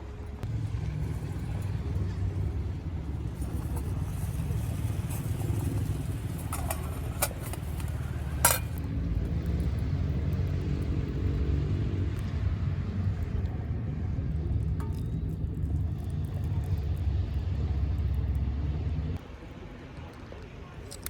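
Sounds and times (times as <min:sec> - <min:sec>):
low fire rumble: 0:00.0 - 0:21.0
wood fire crackling: 0:00.5 - 0:19.0.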